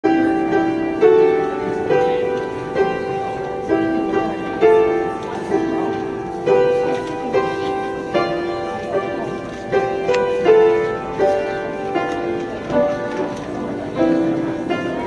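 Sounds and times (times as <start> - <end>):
upright piano tune: 0.0 - 15.0.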